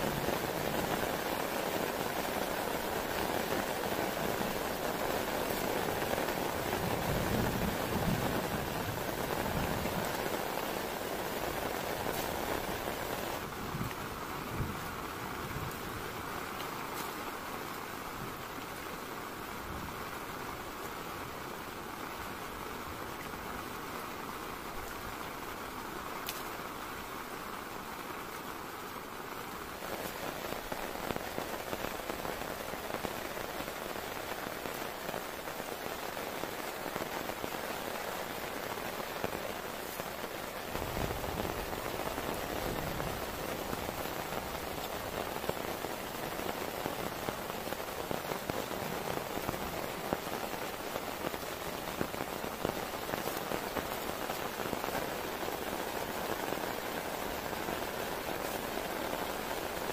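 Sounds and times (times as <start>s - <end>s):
heavy rain falling: 0.0s - 59.9s
rain on a tarp: 0.0s - 59.9s.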